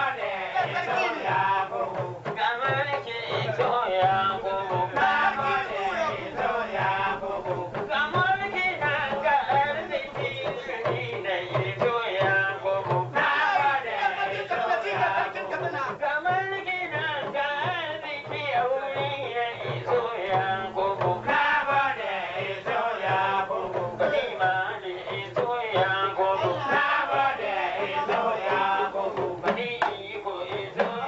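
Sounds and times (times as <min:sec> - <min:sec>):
man singing: 0:00.0 - 0:31.0
talking drums beat: 0:00.0 - 0:31.0.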